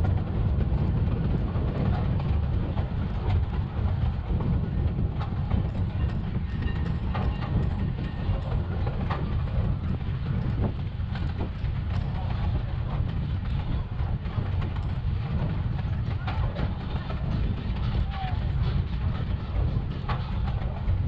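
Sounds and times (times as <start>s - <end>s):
rail car rumbling: 0.0s - 21.0s
wheels clattering on rails: 0.0s - 21.0s.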